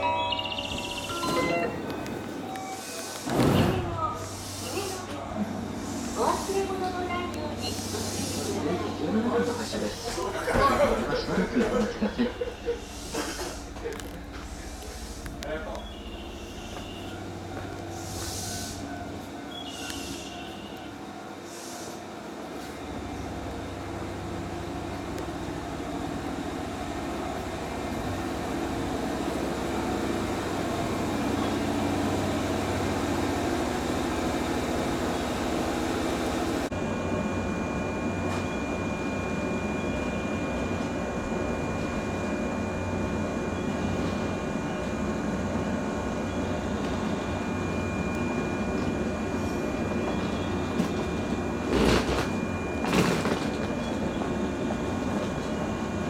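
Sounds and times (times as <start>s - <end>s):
train mechanical hum: 0.0s - 56.0s.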